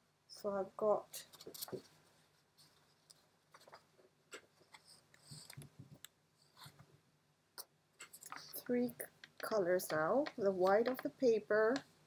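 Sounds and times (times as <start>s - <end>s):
paper print rustling: 1.2s - 6.9s, 8.0s - 12.0s.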